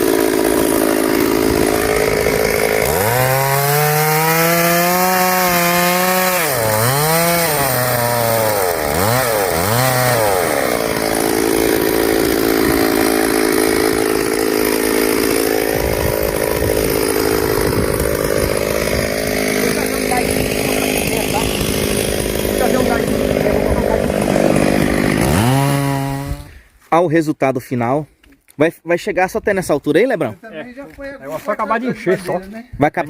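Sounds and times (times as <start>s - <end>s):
chainsaw cutting wood: 0.0s - 26.6s.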